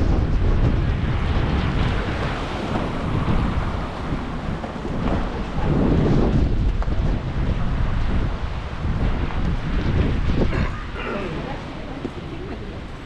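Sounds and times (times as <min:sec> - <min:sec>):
gusting wind on microphone: 0:00.0 - 0:13.0.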